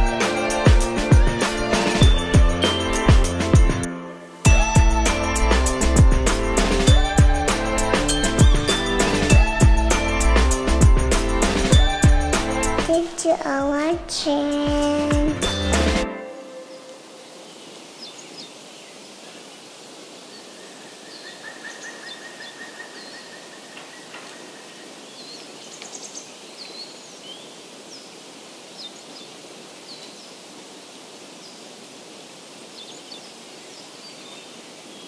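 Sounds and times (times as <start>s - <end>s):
steady woodland hiss: 0.0s - 35.0s.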